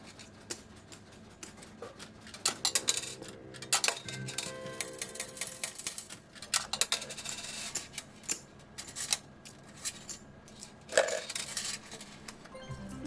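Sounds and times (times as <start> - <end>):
casino clicks and clinks: 2.3 - 13.0.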